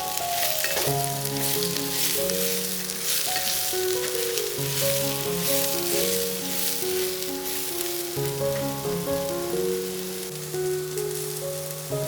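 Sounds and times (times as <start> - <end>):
food sizzling in a pan: 0.0 - 12.0
simple background melody: 0.0 - 12.0.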